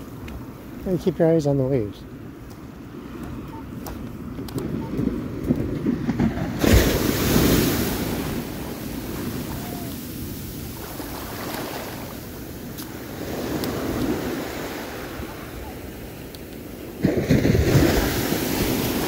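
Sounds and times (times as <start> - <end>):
ocean waves breaking on beach: 0.0 - 19.0.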